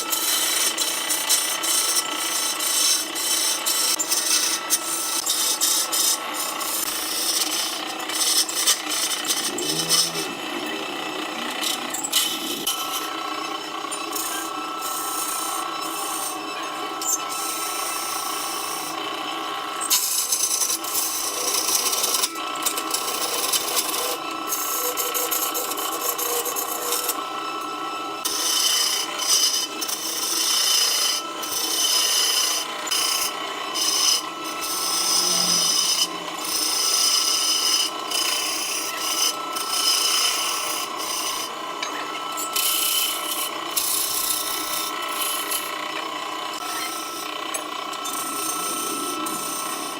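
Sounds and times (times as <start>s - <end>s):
tool scraping spinning wood: 0.0s - 49.9s
wood lathe running: 0.0s - 49.9s.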